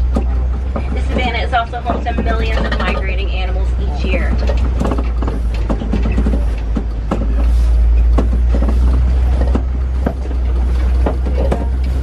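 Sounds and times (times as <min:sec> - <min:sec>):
knocks and rattles of truck body: 0:00.0 - 0:12.0
truck engine and road rumble: 0:00.0 - 0:12.0.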